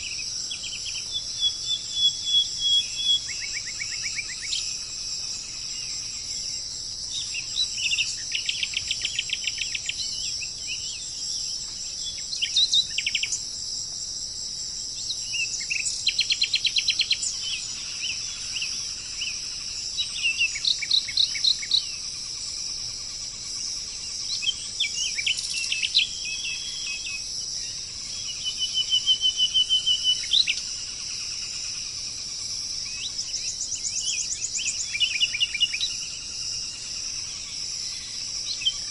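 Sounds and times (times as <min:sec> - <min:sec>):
bird chattering trills and chirps: 0:00.0 - 0:04.8, 0:07.1 - 0:13.5, 0:15.0 - 0:22.4, 0:23.2 - 0:31.7, 0:32.3 - 0:38.9
insects droning: 0:00.0 - 0:38.9.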